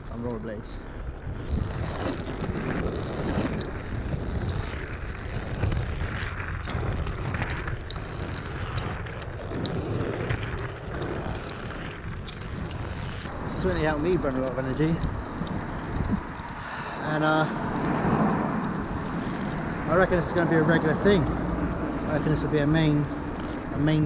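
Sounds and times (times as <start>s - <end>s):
sharp clicks: 0.0s - 24.0s
skate wheels rolling on pavement: 0.0s - 24.0s.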